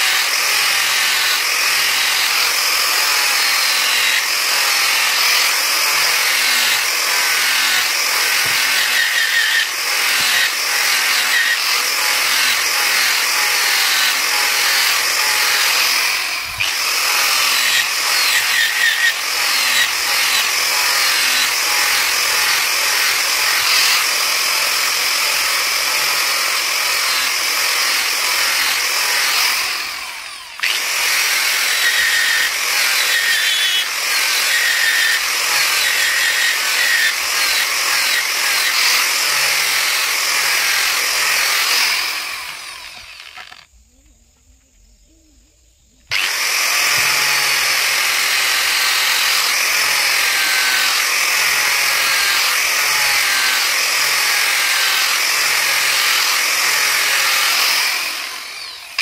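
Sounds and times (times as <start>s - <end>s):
angle grinder grinding steel: 0.0s - 43.7s, 46.1s - 59.0s.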